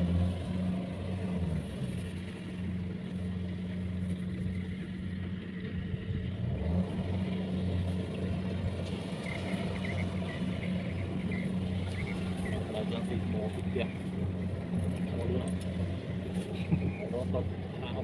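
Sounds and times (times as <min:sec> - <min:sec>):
harvester engine droning: 0:00.0 - 0:18.0.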